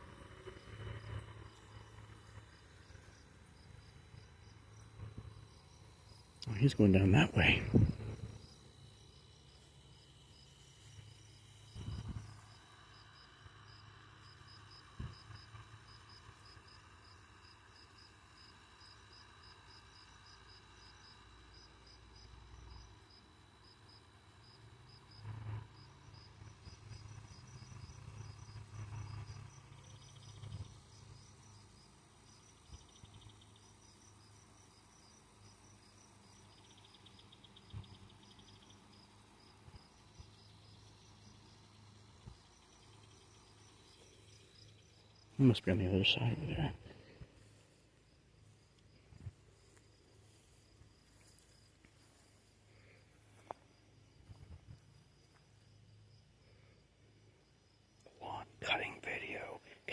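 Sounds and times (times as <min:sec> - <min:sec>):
crickets chirping: 0:00.0 - 0:59.9
faint low hum: 0:00.0 - 0:59.9.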